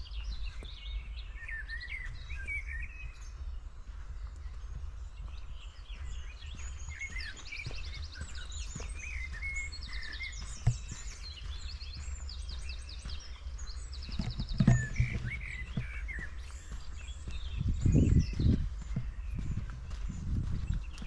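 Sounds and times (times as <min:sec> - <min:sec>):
footsteps on forest floor: 0:00.0 - 0:21.0
songbirds chirping and trilling: 0:00.0 - 0:21.0
steady low rumble: 0:03.1 - 0:21.0.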